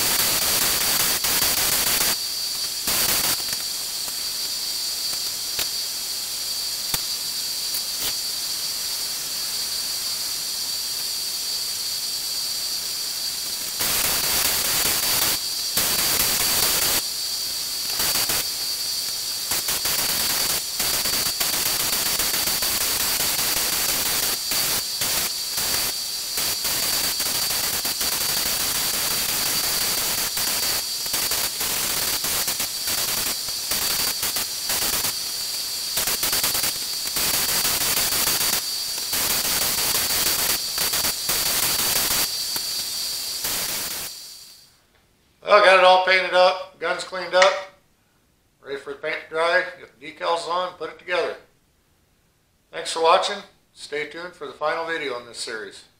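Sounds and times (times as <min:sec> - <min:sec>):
spray gun hissing: 0:00.0 - 0:44.8
faint steady hiss: 0:00.0 - 0:55.9.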